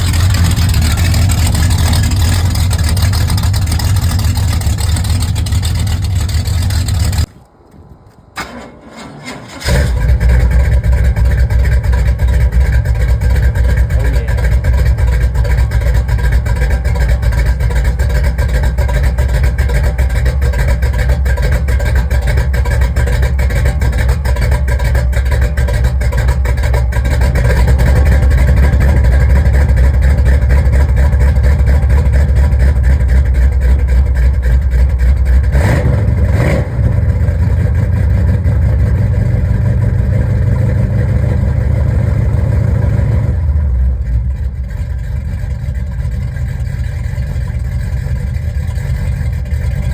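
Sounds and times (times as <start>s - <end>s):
pickup engine rumbling: 0.0s - 49.9s.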